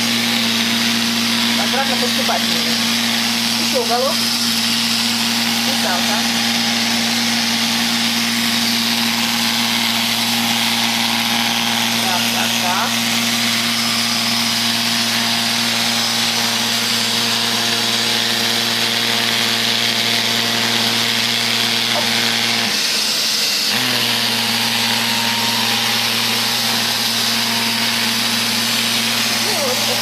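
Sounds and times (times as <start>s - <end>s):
robot vacuum running: 0.0s - 30.0s.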